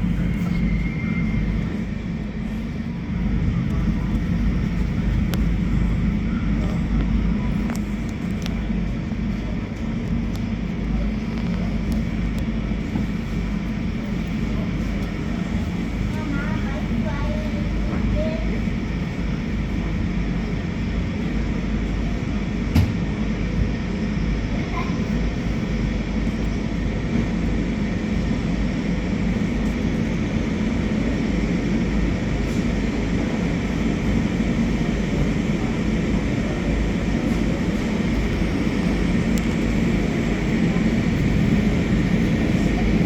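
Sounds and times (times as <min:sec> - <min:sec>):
jet engines rumbling: 0:00.0 - 0:43.0.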